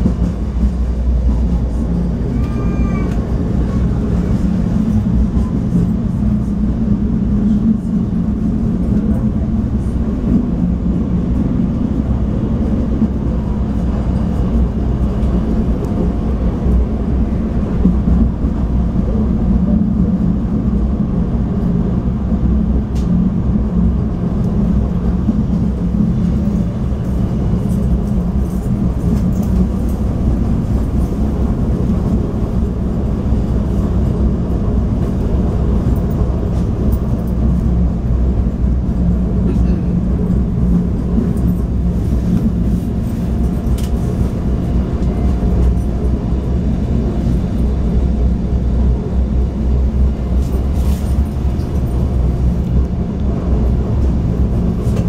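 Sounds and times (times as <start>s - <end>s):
diesel engine drone: 0.0s - 55.0s
train wheels on rails: 0.0s - 55.0s.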